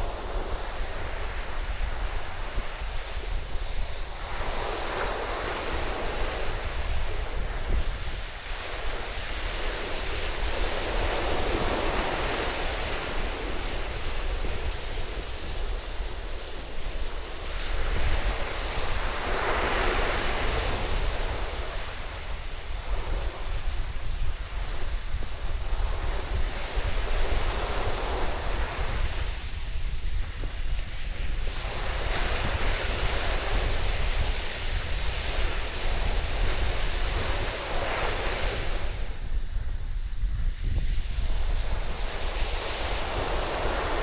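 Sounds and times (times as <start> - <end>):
surf washing on sandy beach: 0.0 - 44.0
wind buffeting microphone: 0.0 - 44.0.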